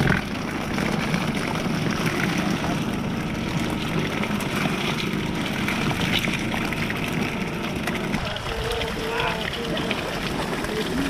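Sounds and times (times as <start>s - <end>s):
boat engine running: 0.0s - 11.0s
water: 0.0s - 11.0s.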